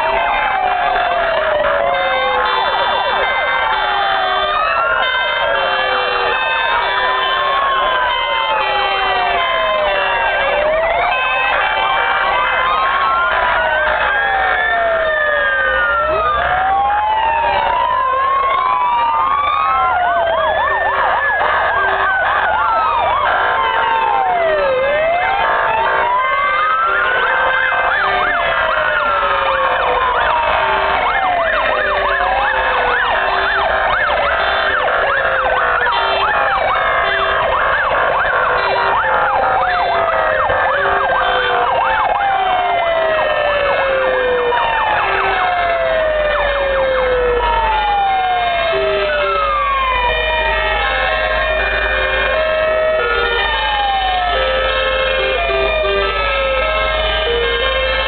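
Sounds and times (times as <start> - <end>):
fire engine sirens wailing: 0.0 - 58.0.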